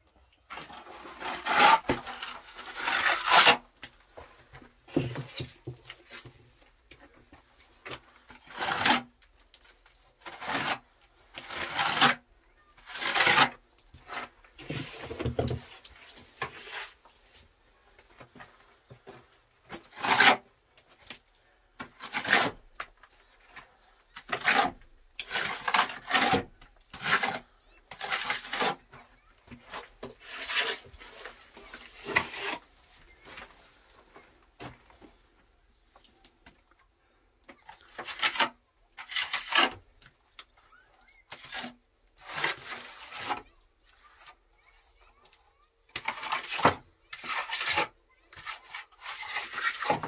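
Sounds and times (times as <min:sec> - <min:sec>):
trowel scraping wet plaster: 0:00.5 - 0:06.5, 0:07.8 - 0:17.5, 0:19.7 - 0:33.9, 0:37.4 - 0:50.0.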